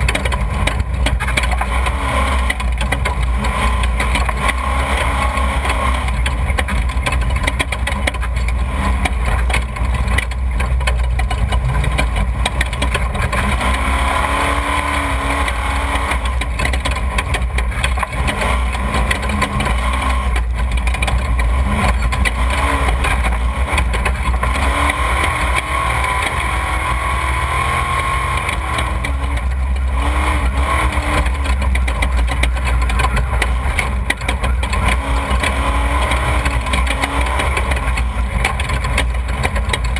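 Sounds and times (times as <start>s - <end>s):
race vehicle engine running: 0.0s - 39.9s.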